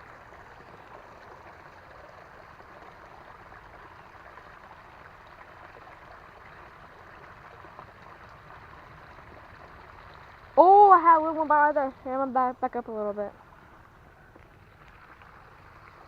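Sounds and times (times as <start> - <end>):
creek running water: 0.0 - 16.0.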